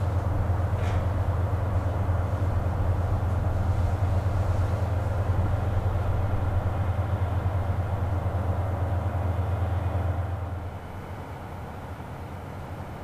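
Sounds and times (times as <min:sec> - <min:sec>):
diesel train engine drone: 0:00.0 - 0:13.0
train rolling noise: 0:00.0 - 0:13.0.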